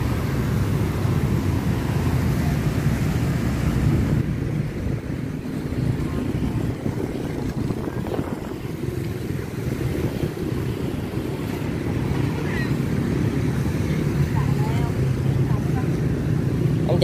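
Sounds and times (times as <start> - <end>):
motorbikes passing on wet road: 0.0 - 17.0
road traffic rumble: 0.0 - 17.0
wind on microphone: 0.0 - 17.0.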